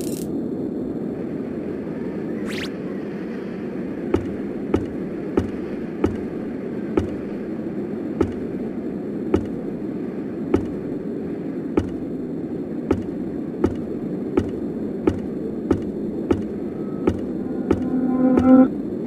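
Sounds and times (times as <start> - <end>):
low rushing noise: 0.3 - 19.0.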